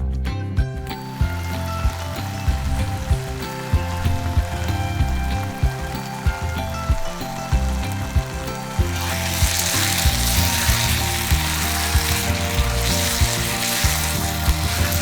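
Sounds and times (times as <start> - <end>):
background music with beat: 0.0 - 15.0
food sizzling in a pan: 0.9 - 15.0.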